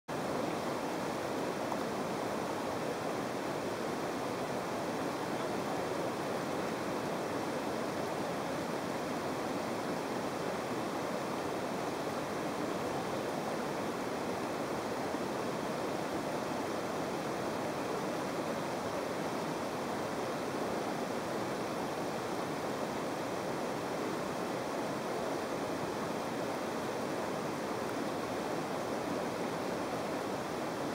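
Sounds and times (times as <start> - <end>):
river whitewater rushing: 0.1 - 30.9.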